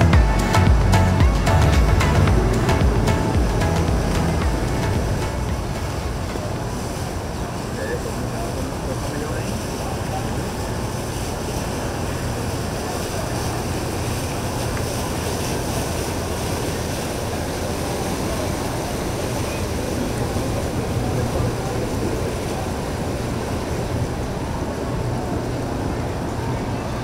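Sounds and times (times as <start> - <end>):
boat engine running: 0.0 - 27.0
churned water rushing: 0.0 - 27.0.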